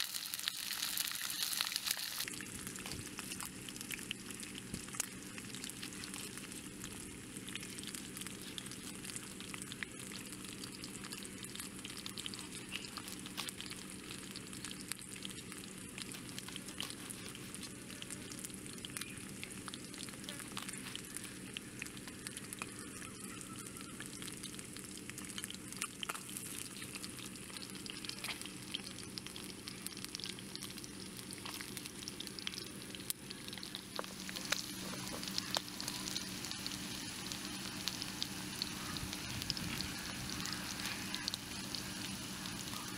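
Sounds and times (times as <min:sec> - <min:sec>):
fish frying in hot oil: 0:00.0 - 0:42.9.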